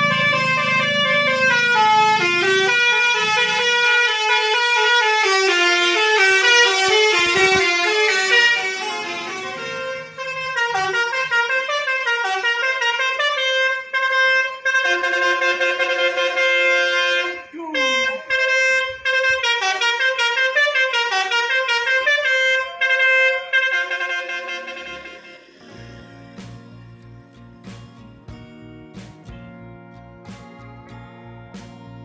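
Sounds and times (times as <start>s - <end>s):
bus air horns playing melodies: 0.0s - 27.1s.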